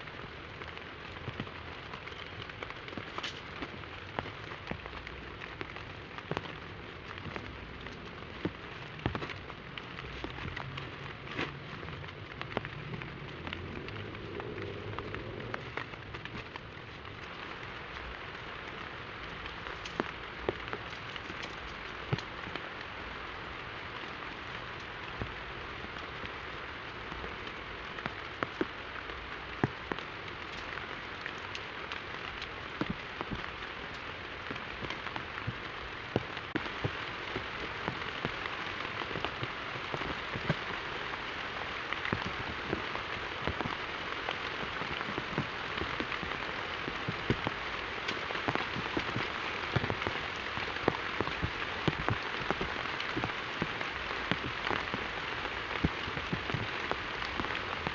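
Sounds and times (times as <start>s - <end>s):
rain drops tapping on a surface: 0.0s - 57.9s.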